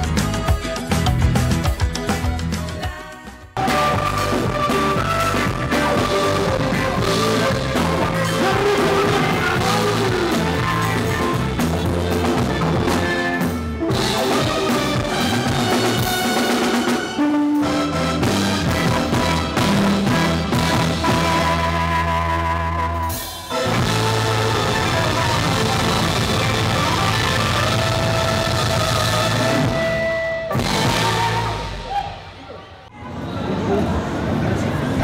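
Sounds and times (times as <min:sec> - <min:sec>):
drum kit and bass beat: 0:00.0 - 0:32.2
live band playing amplified music: 0:00.0 - 0:32.9.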